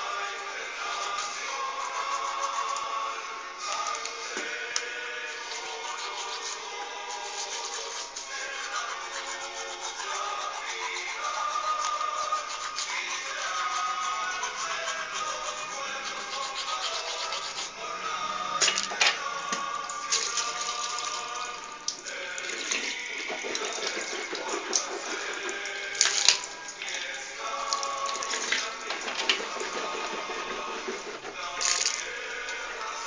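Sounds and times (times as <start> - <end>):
music playing: 0.0 - 33.0.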